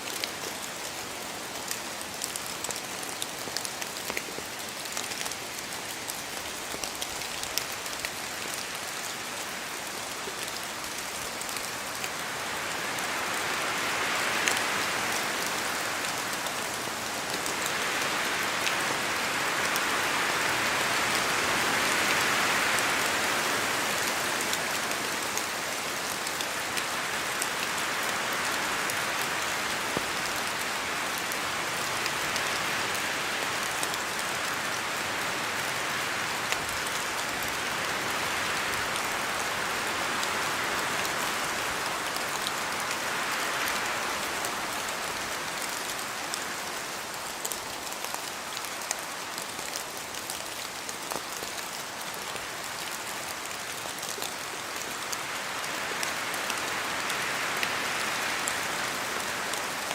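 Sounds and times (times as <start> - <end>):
steady rain hiss: 0.0 - 59.9
wind through trees: 0.0 - 59.9.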